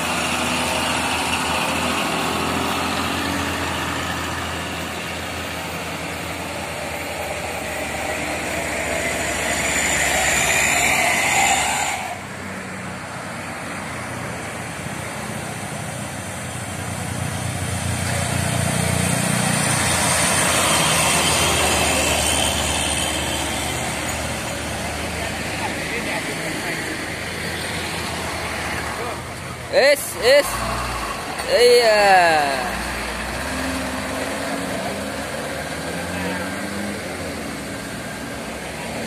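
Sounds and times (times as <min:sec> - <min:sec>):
diesel trucks climbing hill: 0:00.0 - 0:39.0.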